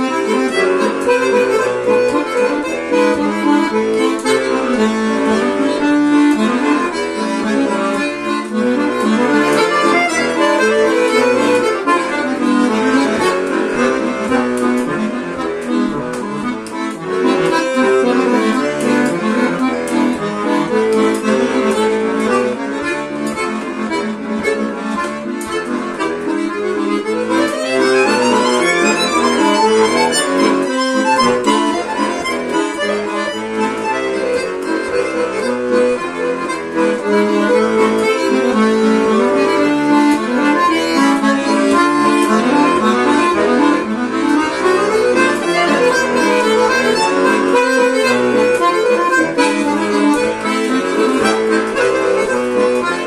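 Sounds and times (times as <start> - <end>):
button accordion playing fast tune: 0.0 - 53.0.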